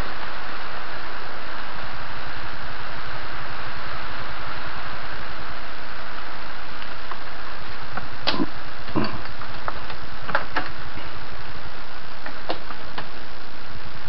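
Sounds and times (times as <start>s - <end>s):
machine background noise: 0.0s - 14.0s.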